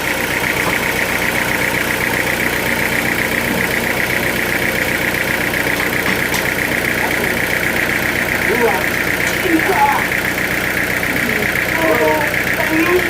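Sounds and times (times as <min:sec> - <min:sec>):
high pulsing whine: 0:00.0 - 0:13.0
sawmill machinery drone: 0:00.0 - 0:13.0.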